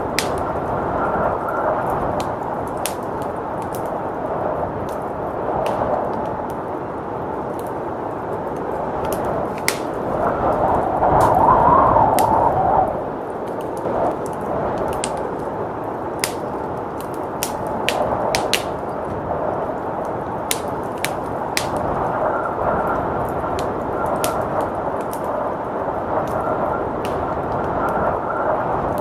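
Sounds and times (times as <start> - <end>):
blizzard wind: 0.0 - 29.0
wood fire crackling and popping: 0.0 - 29.0.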